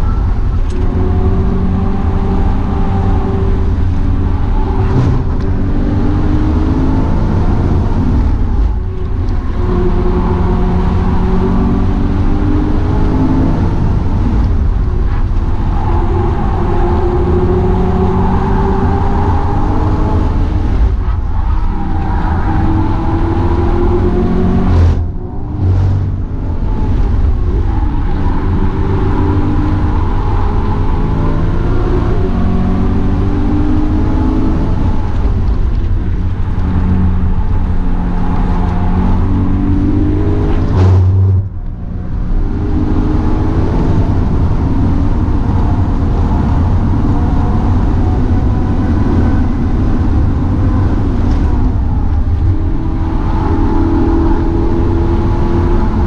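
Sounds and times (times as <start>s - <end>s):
car engine revving and shifting: 0.0s - 56.0s.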